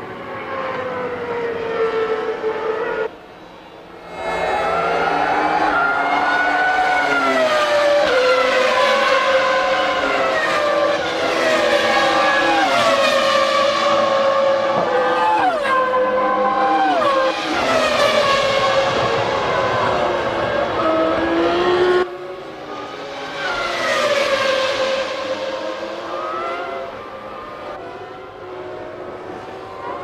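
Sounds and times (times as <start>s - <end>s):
racing car engines at high revs: 3.9s - 30.0s.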